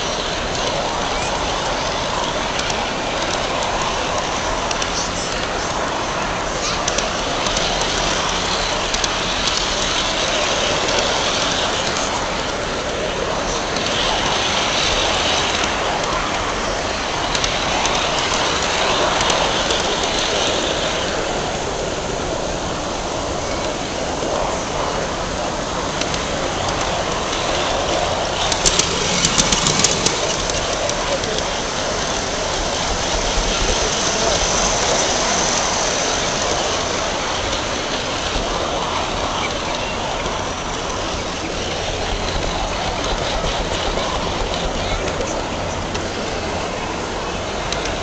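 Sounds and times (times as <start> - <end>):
faint clicks: 0.0 - 21.3, 23.4 - 46.6
model train rolling rumble: 0.0 - 48.0.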